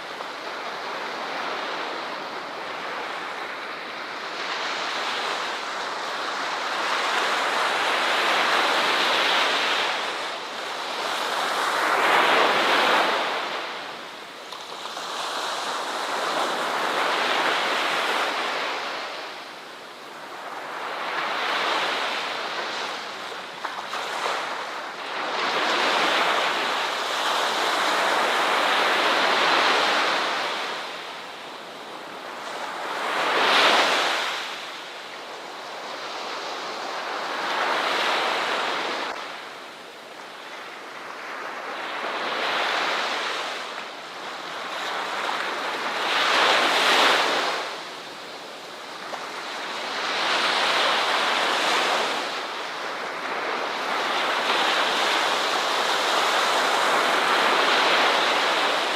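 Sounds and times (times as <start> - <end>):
ocean surf washing onto beach: 0.0 - 58.9.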